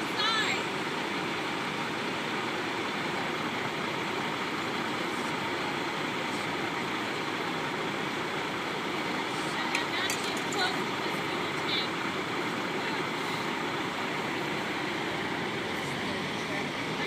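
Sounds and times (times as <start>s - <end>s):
diesel truck engines idling: 0.0s - 17.0s.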